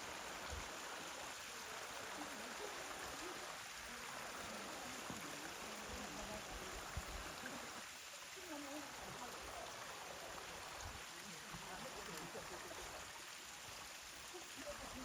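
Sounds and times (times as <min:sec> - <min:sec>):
faint distant voices: 0:00.2 - 0:15.0.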